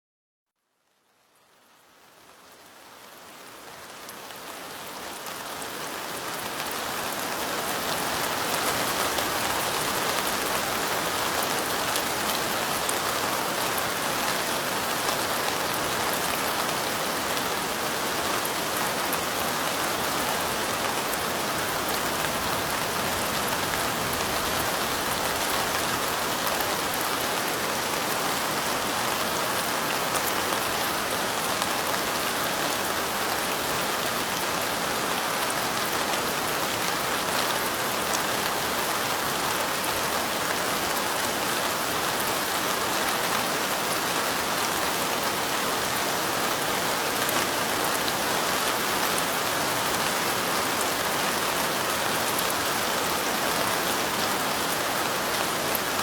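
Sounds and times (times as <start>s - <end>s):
rain falling: 0.8s - 56.0s.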